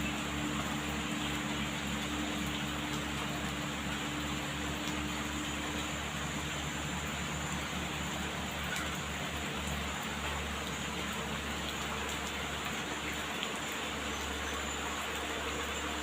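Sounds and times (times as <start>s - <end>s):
heavy rain falling: 0.0s - 16.0s
raindrop ticks: 0.0s - 16.0s.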